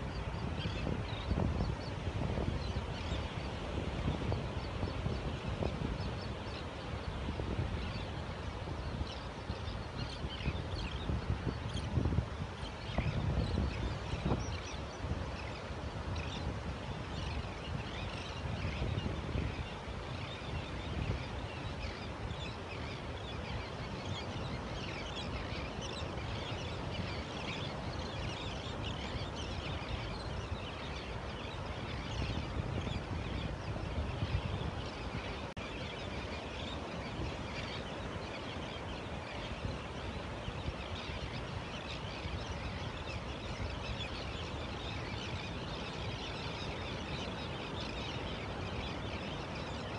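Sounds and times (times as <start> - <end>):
terns and gulls calling: 0.0 - 49.9.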